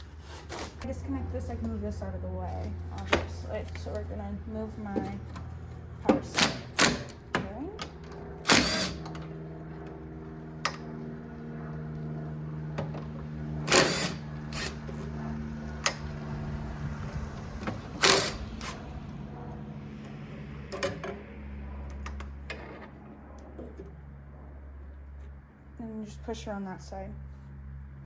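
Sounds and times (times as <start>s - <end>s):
machine hum of several notes: 0.0s - 28.0s.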